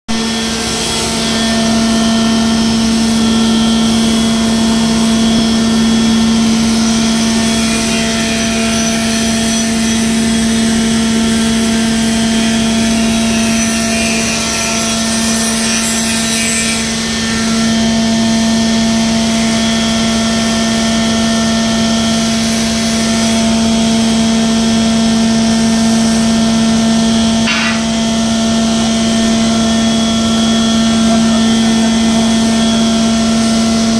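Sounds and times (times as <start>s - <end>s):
machinery droning: 0.1s - 33.9s.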